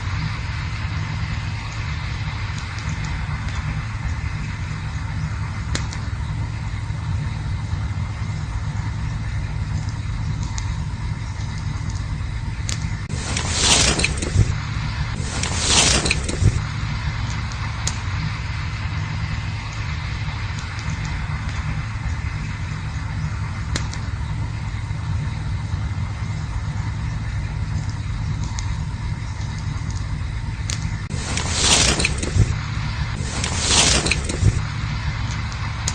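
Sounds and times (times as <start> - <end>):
rushing noise: 0.0 - 11.5, 12.2 - 35.9
campfire burning low rumble: 0.0 - 35.9
sharp fire crackles: 0.0 - 35.9.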